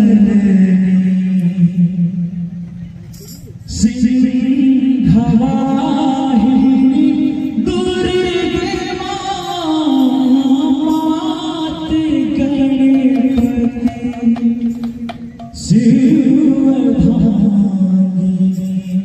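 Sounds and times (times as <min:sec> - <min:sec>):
person singing into a microphone: 0:00.0 - 0:19.0.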